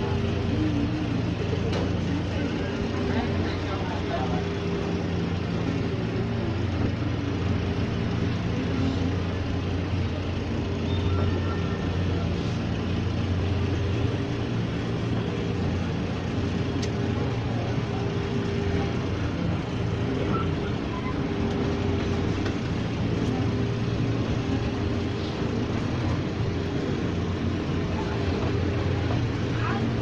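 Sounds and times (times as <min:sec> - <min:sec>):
train car rumbling on track: 0:00.0 - 0:30.0.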